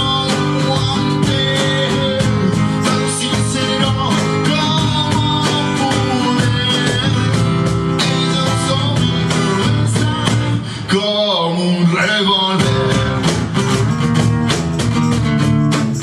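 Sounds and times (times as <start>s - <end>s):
hand percussion beat: 0.0s - 10.6s, 12.6s - 16.0s
acoustic guitar chords: 0.0s - 16.0s.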